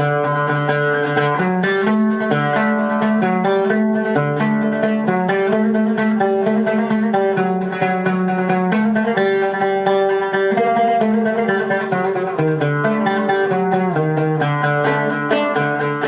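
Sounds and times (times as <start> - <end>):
plucked string melody: 0.0 - 16.0.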